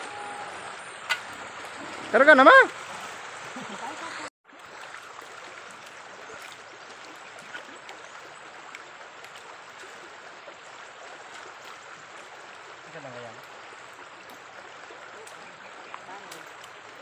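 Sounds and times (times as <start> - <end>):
river water over stones: 0.0 - 17.0.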